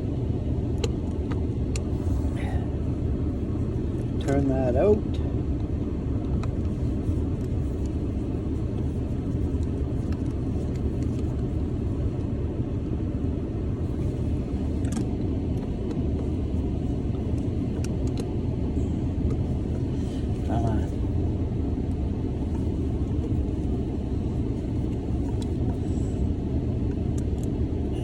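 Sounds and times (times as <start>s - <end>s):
heater fan blowing: 0.0s - 28.0s.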